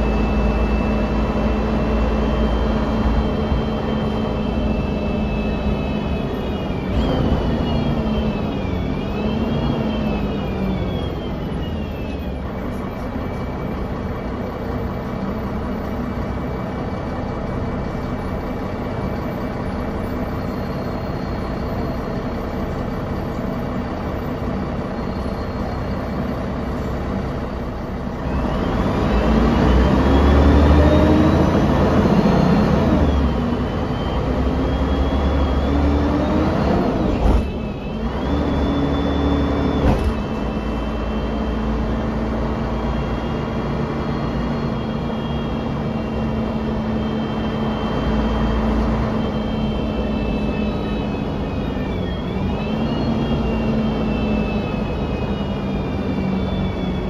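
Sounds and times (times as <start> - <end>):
bus engine running: 0.0 - 57.0
drivetrain whine: 0.0 - 57.0.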